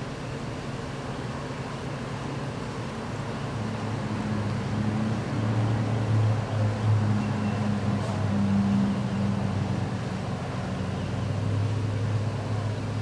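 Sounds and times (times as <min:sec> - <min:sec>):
low engine hum: 0:00.0 - 0:13.0
outdoor background noise: 0:00.0 - 0:13.0.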